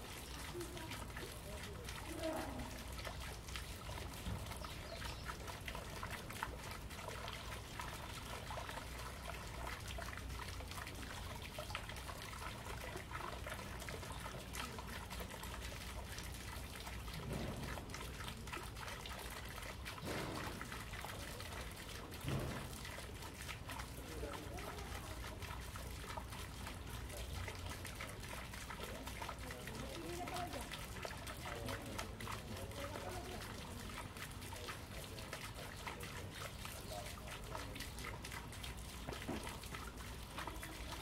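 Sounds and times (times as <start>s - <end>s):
fountain trickling into pond: 0.0s - 41.0s.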